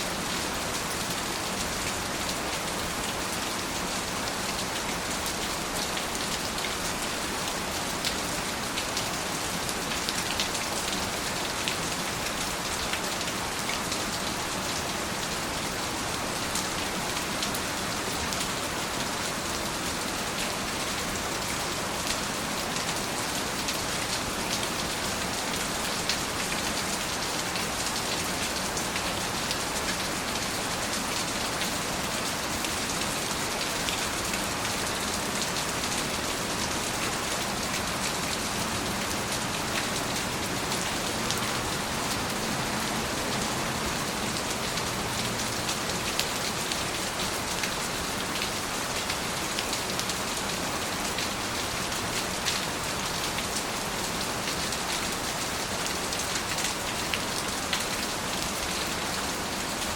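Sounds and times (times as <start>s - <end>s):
rain pattering on surfaces: 0.1s - 59.9s.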